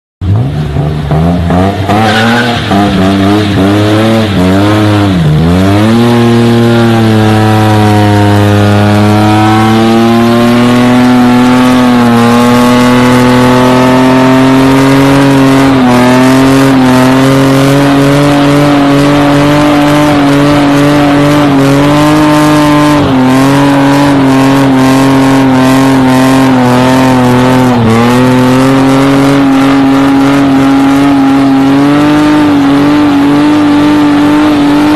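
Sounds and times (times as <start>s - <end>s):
car engine revving hard: 0.2s - 34.9s.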